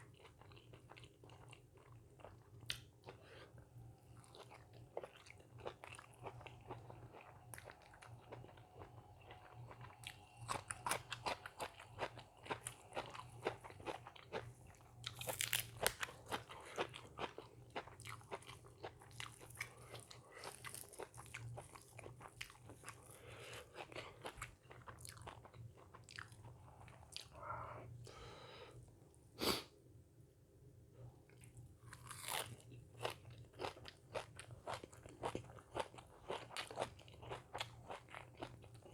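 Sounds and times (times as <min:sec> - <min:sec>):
person chewing crunchy food: 0:00.0 - 0:27.4, 0:31.3 - 0:38.9.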